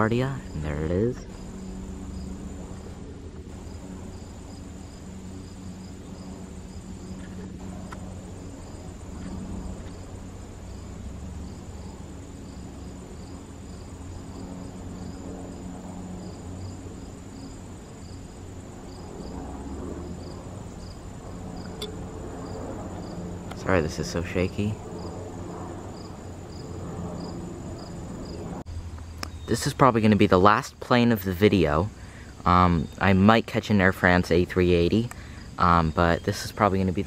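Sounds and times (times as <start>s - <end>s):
crickets chirping: 0.0s - 37.0s
distant jet engine rumble: 0.0s - 37.0s.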